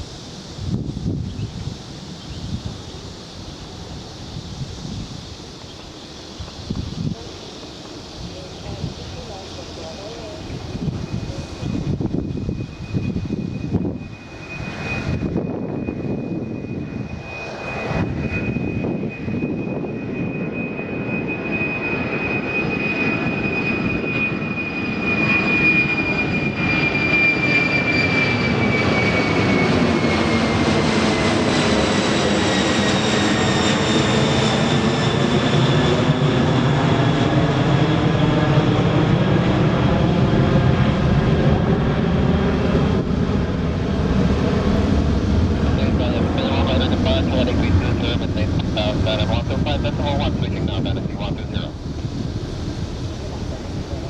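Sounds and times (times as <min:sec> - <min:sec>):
deep jet engine rumble: 0:00.0 - 0:54.0
jet engine whine: 0:00.0 - 0:54.0.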